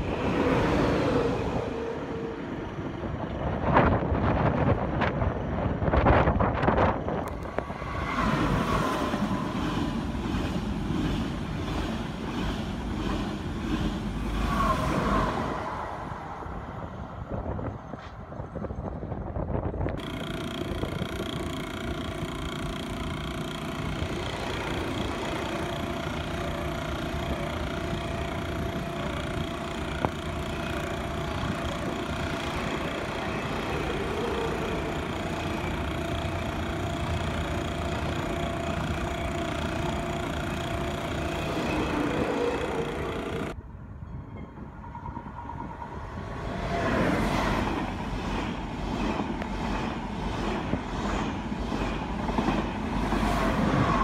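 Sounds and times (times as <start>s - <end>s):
high-speed train passing: 0.0s - 54.0s
train whine: 0.0s - 54.0s.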